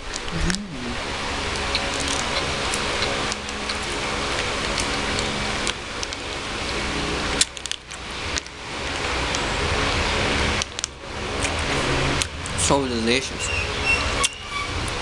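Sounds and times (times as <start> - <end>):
steady hiss and low hum: 0.0 - 15.0.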